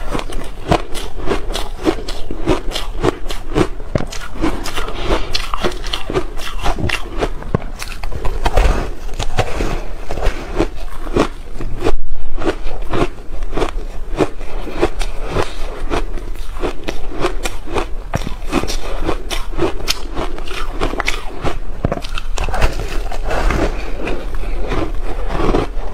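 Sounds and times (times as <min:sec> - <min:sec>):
chewing crunchy ice: 0:00.0 - 0:25.9.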